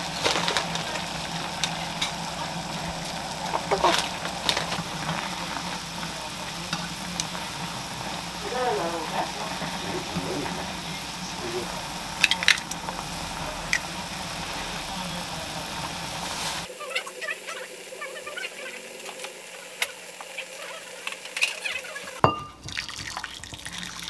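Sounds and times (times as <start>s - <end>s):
noodles boiling with bubbling hiss: 0.0s - 24.0s.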